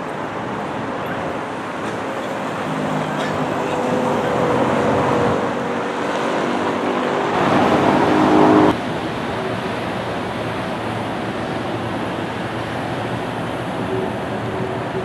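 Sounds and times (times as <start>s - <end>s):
motor engine noise: 0.0s - 15.0s
rushing traffic din: 0.0s - 15.0s.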